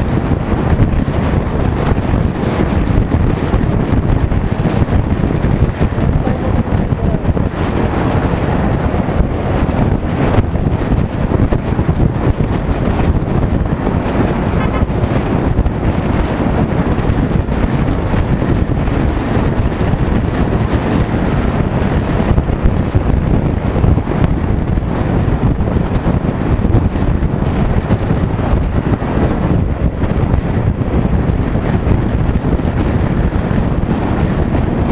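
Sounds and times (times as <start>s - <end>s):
road and vehicle rumble: 0.0s - 34.9s
wind buffeting microphone: 0.0s - 34.9s.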